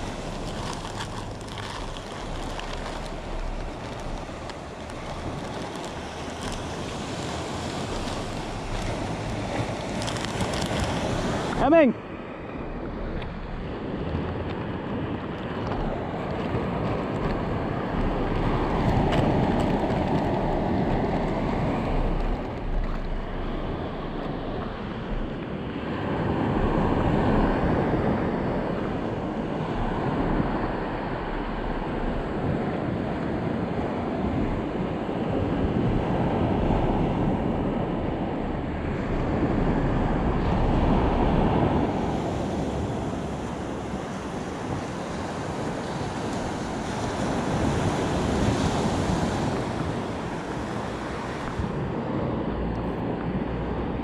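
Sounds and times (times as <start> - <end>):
surf breaking on beach: 0.0 - 54.0
wind buffeting microphone: 0.0 - 54.0.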